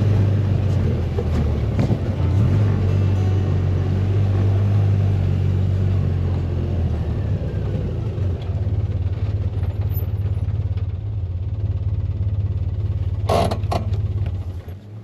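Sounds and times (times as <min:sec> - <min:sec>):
utility vehicle engine drone: 0:00.0 - 0:15.0.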